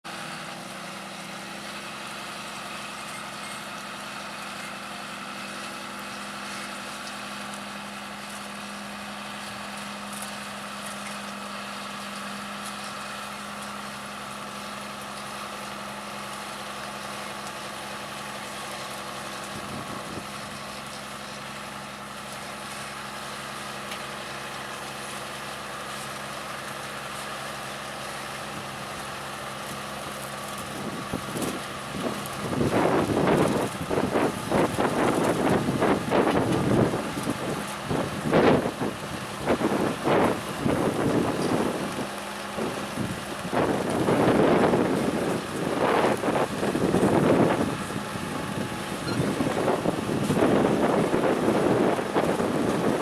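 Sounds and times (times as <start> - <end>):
tractor engine running: 0.0 - 53.0
harvester machinery noise: 0.1 - 53.0.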